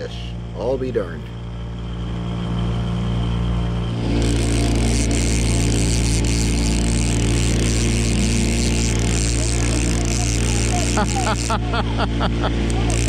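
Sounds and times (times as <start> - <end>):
boat motor running: 0.0 - 13.0
wind: 0.0 - 13.0.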